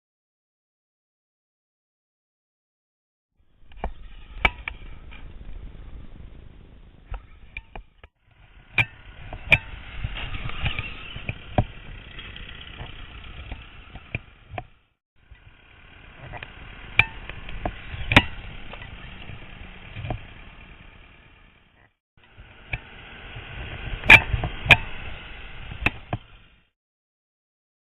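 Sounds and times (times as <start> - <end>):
rc truck drivetrain and tyres: 3.4 - 26.7.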